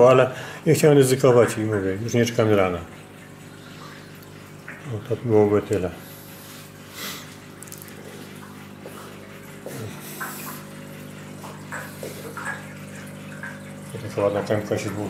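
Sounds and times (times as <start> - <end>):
electrical hum: 0.0 - 15.0
water bubbling and trickling: 0.0 - 15.0.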